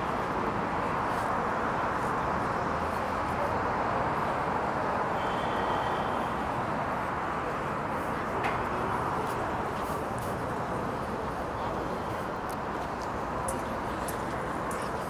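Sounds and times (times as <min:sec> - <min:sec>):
passing cars: 0:00.0 - 0:15.0.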